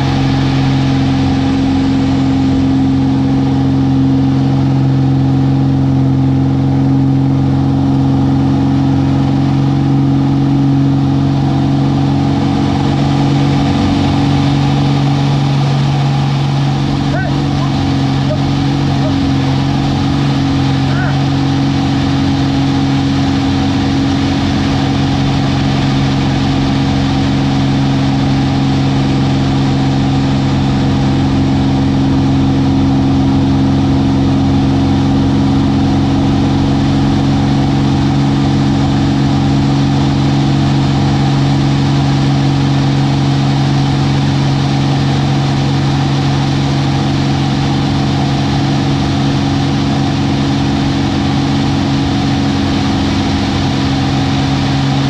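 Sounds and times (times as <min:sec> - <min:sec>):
airplane piston engine and propeller: 0:00.0 - 0:55.0.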